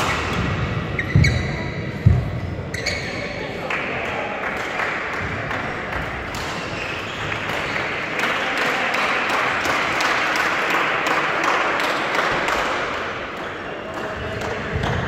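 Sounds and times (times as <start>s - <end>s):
reverberant hall din: 0.0s - 15.0s.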